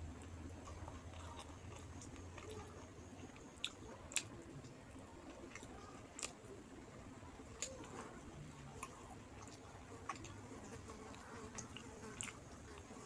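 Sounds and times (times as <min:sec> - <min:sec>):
person chewing food: 0:00.1 - 0:06.4, 0:07.6 - 0:10.4, 0:11.1 - 0:12.9.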